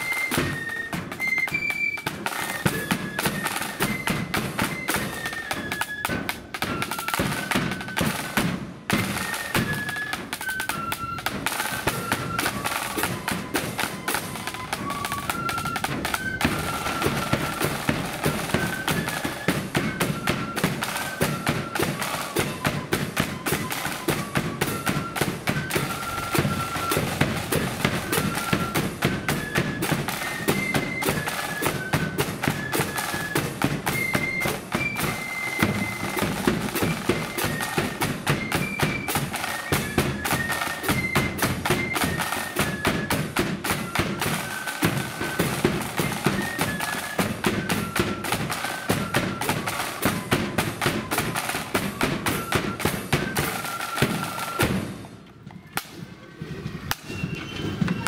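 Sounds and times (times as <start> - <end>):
flutes playing melody: 0.0 - 55.7
snare drums: 0.0 - 58.0.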